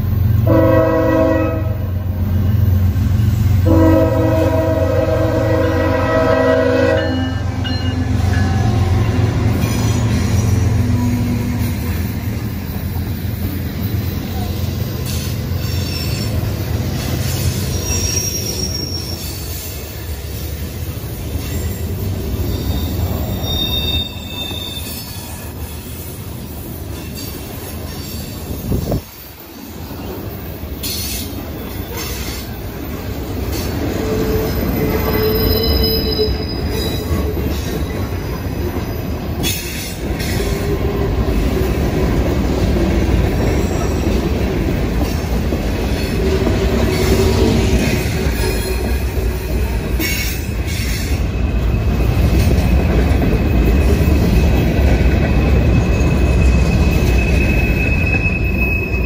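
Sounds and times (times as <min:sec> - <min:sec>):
freight train rumbling on rails: 0:00.0 - 0:59.0
steel wheels squealing: 0:07.0 - 0:41.0, 0:43.2 - 0:44.4, 0:45.0 - 0:59.0.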